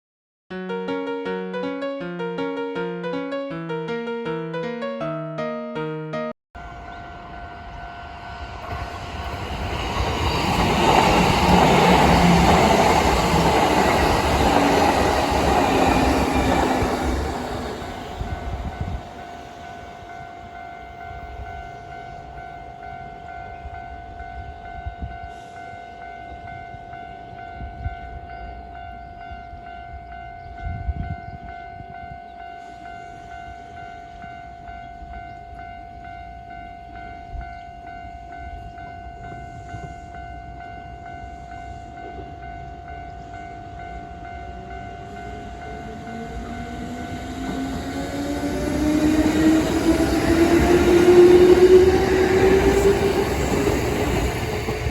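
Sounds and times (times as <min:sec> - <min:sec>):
level crossing warning bell: 0:06.6 - 0:54.9
train approaching with rising hum: 0:06.6 - 0:54.9.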